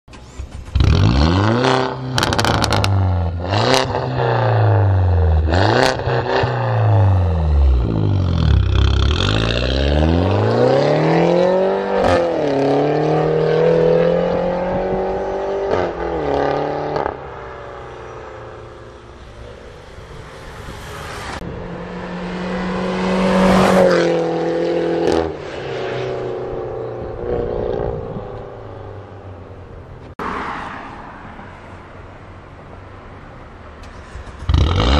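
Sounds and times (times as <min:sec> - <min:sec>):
car engine revving: 0:00.1 - 0:29.3, 0:33.8 - 0:34.9.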